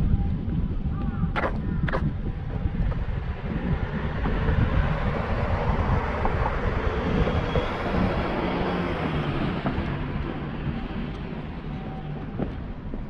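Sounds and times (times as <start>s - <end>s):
road traffic: 1.4s - 13.0s
vehicle passing: 2.4s - 13.0s.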